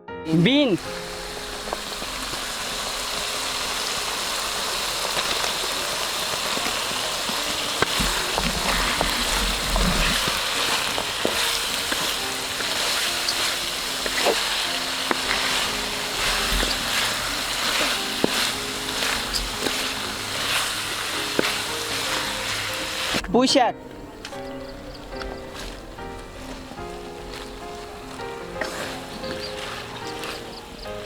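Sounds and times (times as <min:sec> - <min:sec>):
curry bubbling in a pan: 0:00.8 - 0:23.2, 0:24.6 - 0:31.0.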